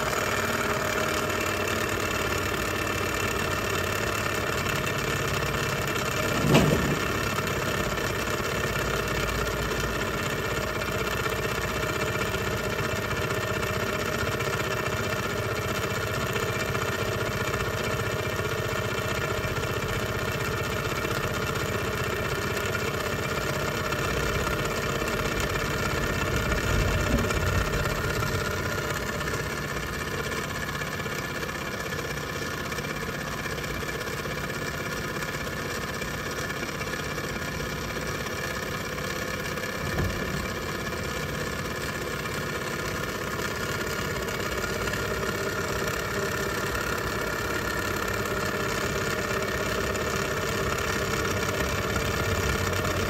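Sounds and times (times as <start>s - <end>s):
model steam engine running: 0.0s - 53.0s.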